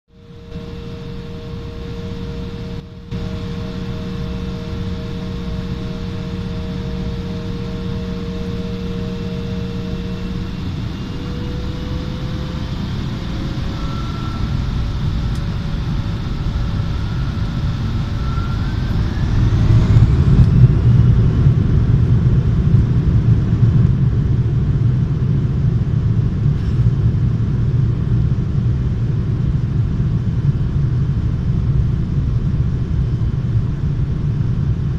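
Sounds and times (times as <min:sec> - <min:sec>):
jet engine low rumble: 0:00.1 - 0:34.9
jet engine whine: 0:00.1 - 0:34.9.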